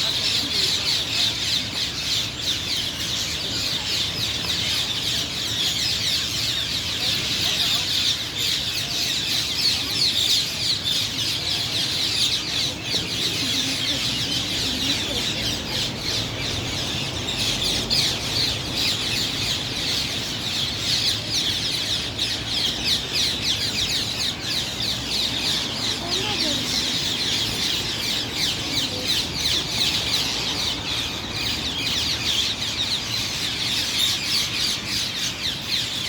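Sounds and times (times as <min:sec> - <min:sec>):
parakeets screeching: 0:00.0 - 0:36.0.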